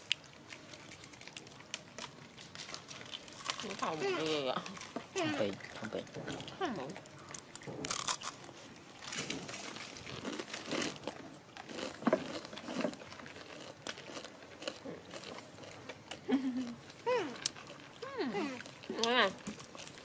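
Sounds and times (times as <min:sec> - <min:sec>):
monkeys crunching dry snack: 0:00.0 - 0:20.0.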